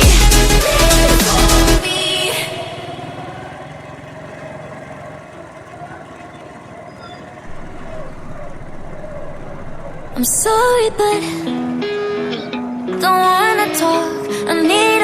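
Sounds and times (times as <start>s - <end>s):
vehicle engine running: 0.0s - 14.3s
road noise: 0.0s - 15.0s.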